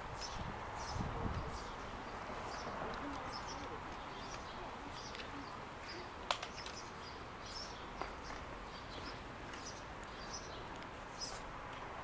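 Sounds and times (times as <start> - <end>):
small birds chirping: 0.1 - 11.6.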